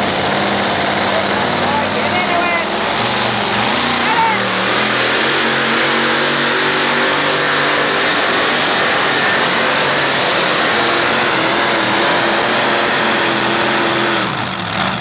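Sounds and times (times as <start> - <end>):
truck engine roaring at high revs: 0.0 - 15.0.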